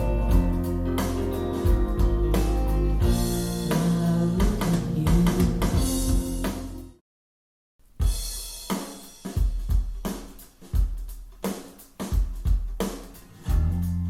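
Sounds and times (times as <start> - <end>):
drum kit playing: 0.0 - 7.0, 7.8 - 14.0.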